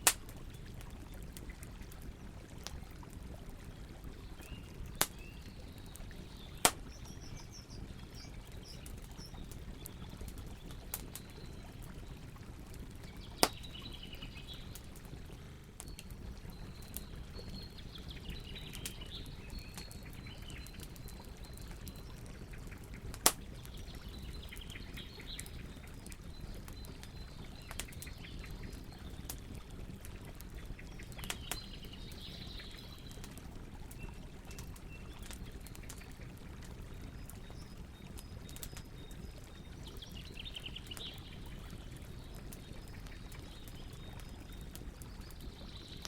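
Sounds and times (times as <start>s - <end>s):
campfire rushing and crackling: 0.0s - 46.0s
faint birds chirping: 0.4s - 46.0s.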